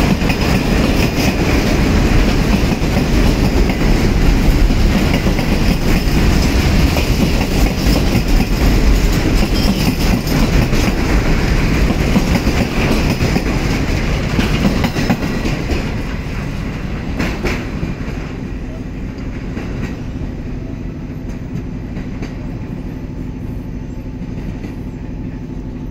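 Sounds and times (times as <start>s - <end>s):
freight train wheels on rails: 0.0s - 25.9s.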